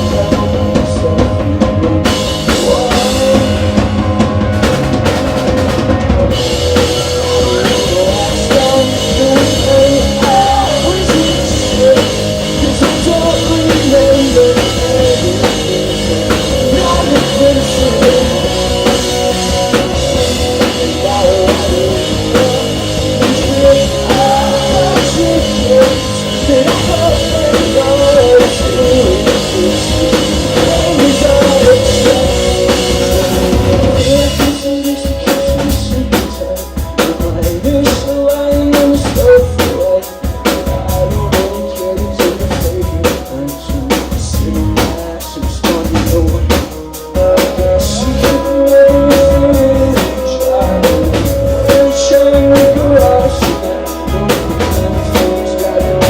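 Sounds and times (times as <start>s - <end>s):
drum kit pounding: 0.0s - 56.0s
rock band playing live: 0.0s - 56.0s.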